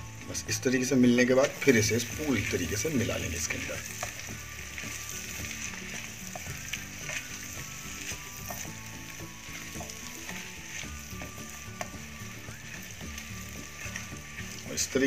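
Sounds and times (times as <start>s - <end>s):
food sizzling in oil: 0.0s - 15.0s
wooden spatula scraping pan: 1.4s - 15.0s.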